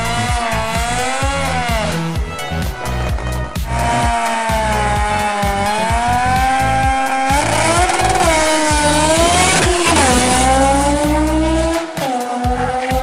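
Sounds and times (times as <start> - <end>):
engine revving hard: 0.0 - 13.0
tyre noise: 0.0 - 13.0.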